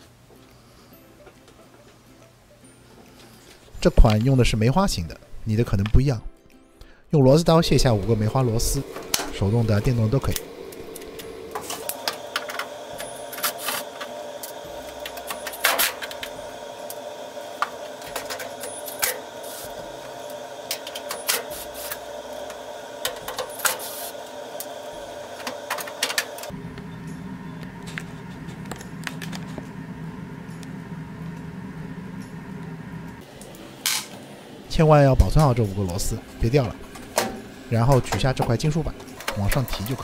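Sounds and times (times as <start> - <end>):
steady hum: 6.9 - 40.0.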